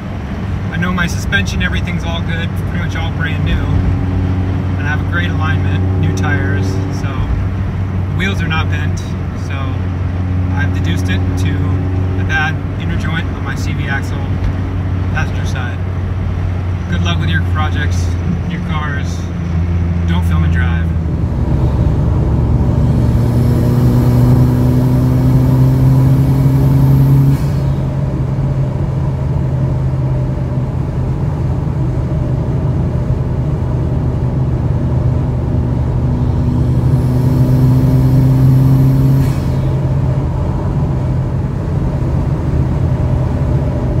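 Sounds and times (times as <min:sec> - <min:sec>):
car engine hum: 0:00.0 - 0:44.0
road and tyre noise: 0:00.0 - 0:44.0.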